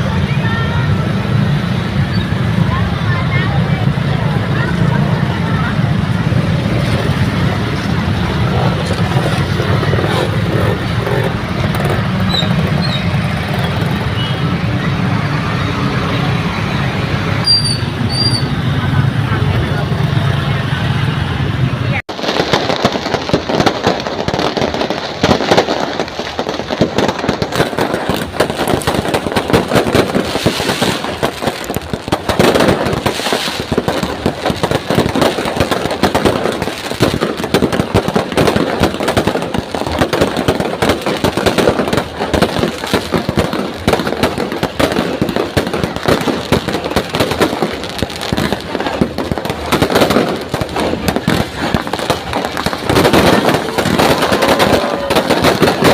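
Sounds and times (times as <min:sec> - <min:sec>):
fireworks crackling and banging: 0:00.0 - 0:55.9.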